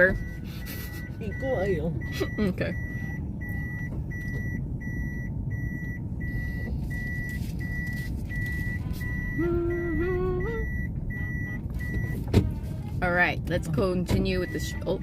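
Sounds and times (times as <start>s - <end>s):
car engine rumble: 0.0s - 15.0s
car warning beeper: 0.0s - 15.0s.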